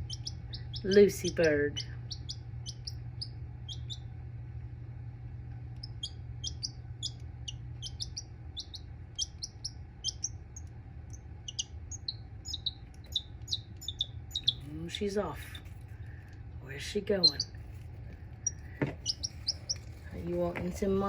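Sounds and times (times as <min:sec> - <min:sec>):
baby chick peeping: 0:00.0 - 0:04.2, 0:05.5 - 0:21.0
steady low hum: 0:00.0 - 0:21.0.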